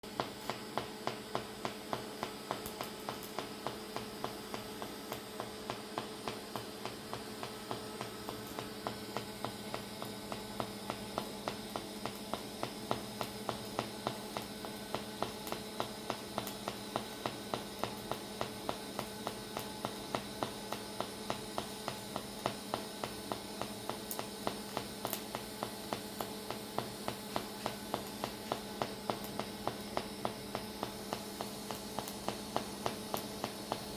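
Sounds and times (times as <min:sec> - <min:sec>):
welding arc buzzing: 0:00.0 - 0:33.9
sharp pulse ticks: 0:00.2 - 0:33.9.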